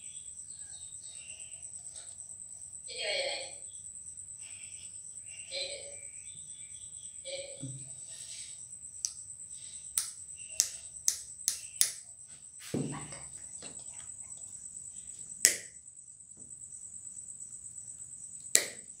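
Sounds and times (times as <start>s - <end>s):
high-pitched insect-like tone: 0.0s - 19.0s.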